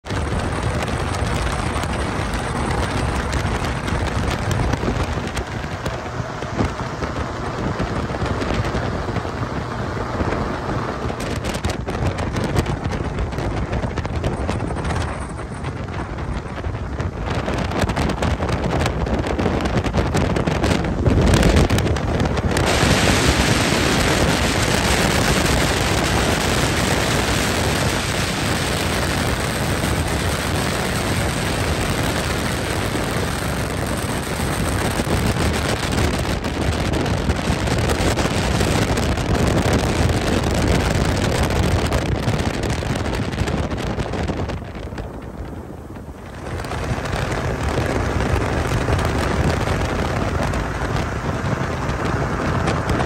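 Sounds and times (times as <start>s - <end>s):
aircraft engine running: 0.0s - 53.0s
wind buffeting microphone: 0.0s - 53.0s.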